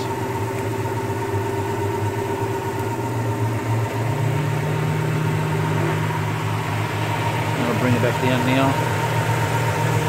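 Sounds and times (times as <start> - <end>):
radiator fan low hum: 0.0 - 10.0
van engine idling: 0.0 - 10.0.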